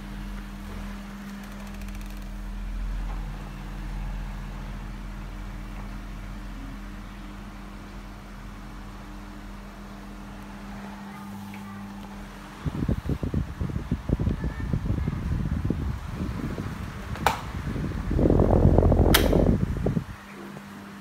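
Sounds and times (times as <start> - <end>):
electric fan motor humming: 0.0 - 21.0.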